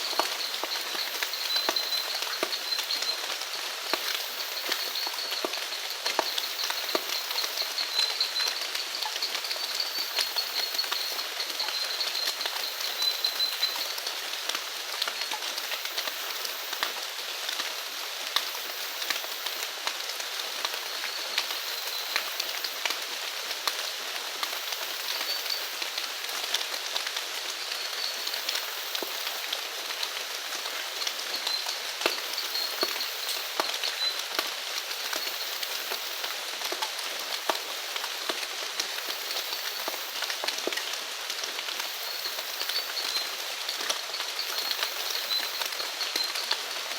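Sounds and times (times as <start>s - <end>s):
rain drops pattering: 0.0s - 46.9s.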